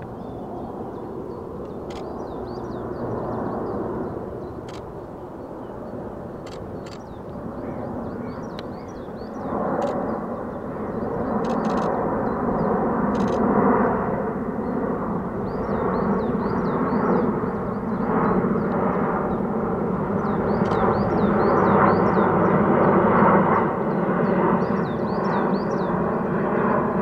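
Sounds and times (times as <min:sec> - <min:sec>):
propeller aircraft droning overhead: 0:00.0 - 0:27.0.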